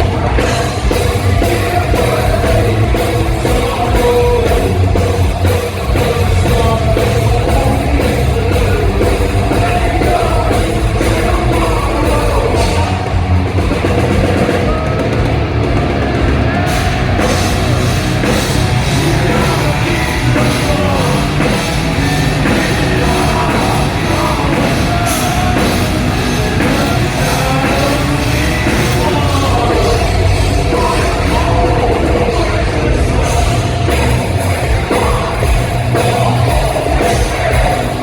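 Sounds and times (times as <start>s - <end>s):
person singing: 0.0s - 15.2s, 16.5s - 38.0s
bass: 0.0s - 38.0s
distorted guitars: 0.0s - 38.0s
drum kit: 0.0s - 38.0s.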